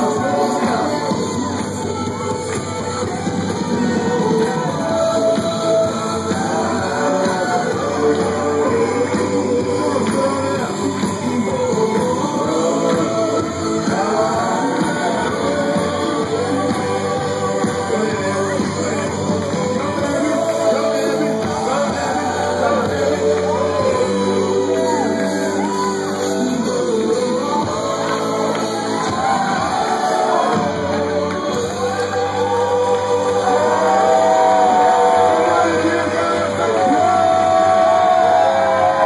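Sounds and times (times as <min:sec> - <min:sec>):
crowd shouting and whooping: 0:00.0 - 0:39.0
voices singing: 0:00.0 - 0:39.0.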